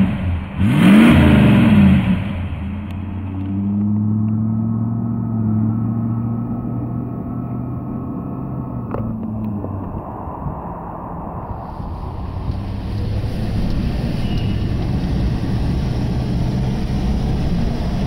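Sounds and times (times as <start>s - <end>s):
car engine driving away: 0.0s - 18.0s
road and wind noise: 0.0s - 18.0s.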